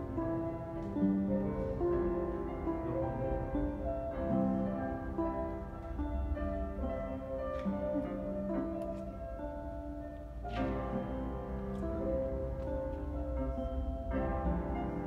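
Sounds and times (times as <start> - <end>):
electronic keyboard melody: 0.0 - 15.0.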